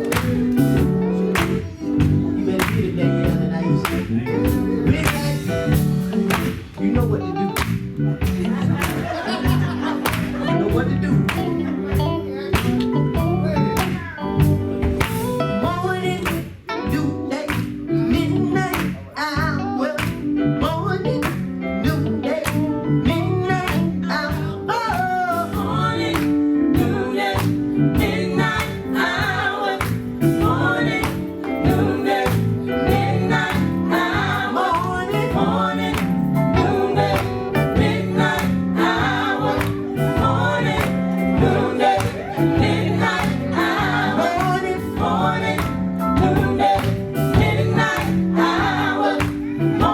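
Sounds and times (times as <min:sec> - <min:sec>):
people singing: 0:00.0 - 0:20.0, 0:20.6 - 0:49.9
band playing a steady beat: 0:00.0 - 0:49.9.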